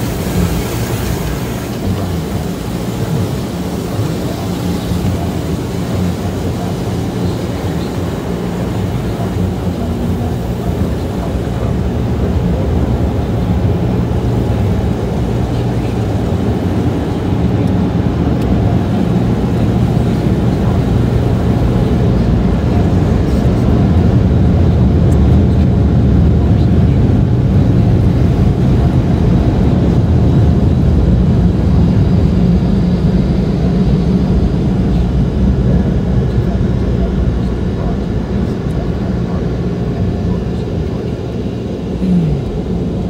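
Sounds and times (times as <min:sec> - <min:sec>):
car wash machinery roaring: 0:00.0 - 0:43.0
water spray hissing on car: 0:00.0 - 0:43.0.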